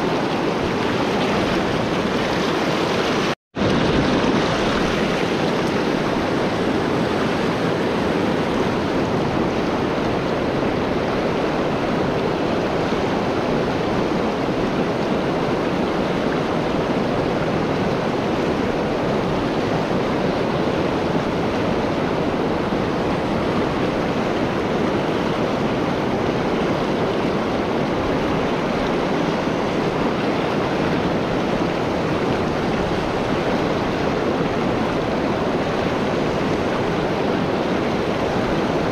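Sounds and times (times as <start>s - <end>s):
river rushing over stones: 0.0s - 38.9s.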